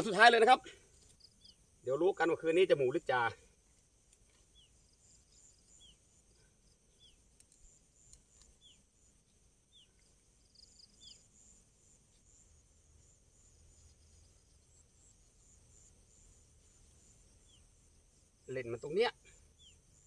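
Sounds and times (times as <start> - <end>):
faint insects chirping: 0.0 - 20.0.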